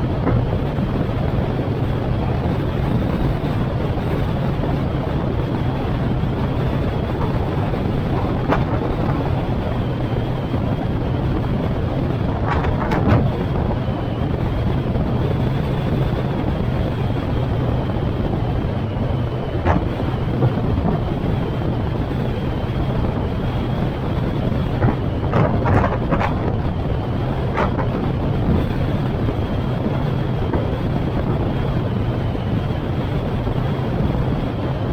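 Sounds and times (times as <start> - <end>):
car engine and tyre hum: 0.0 - 34.9
wind buffeting microphone: 0.0 - 34.9.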